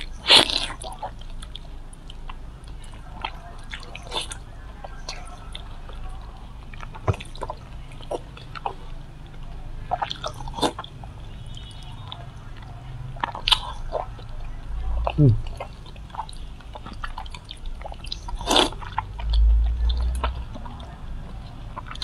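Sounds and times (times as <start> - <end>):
sucking and chewing meat: 0.0 - 22.0.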